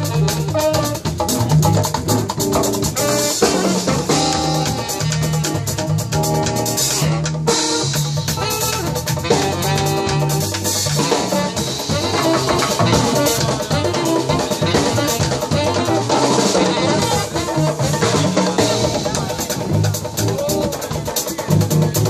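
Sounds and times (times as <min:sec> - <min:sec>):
held melodic notes: 0:00.0 - 0:20.8
bass line: 0:00.0 - 0:22.0
drum kit with cymbals: 0:00.0 - 0:22.0
hand drums: 0:00.0 - 0:22.0.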